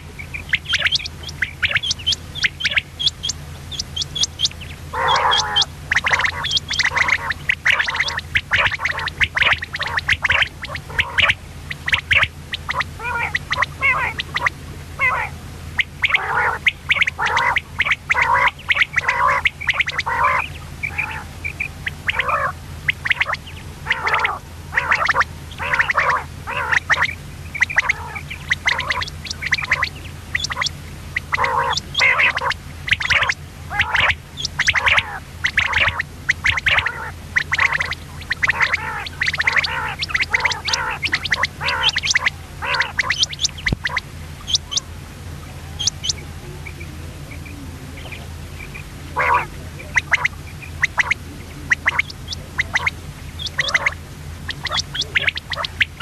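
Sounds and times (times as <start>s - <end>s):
quail calling: 0.0s - 56.0s
steady low hum: 0.0s - 56.0s.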